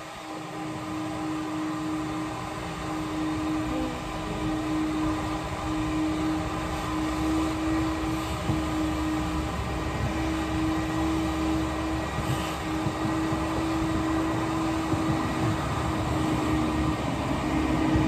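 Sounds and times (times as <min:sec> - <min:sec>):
motor humming: 0:00.2 - 0:18.0.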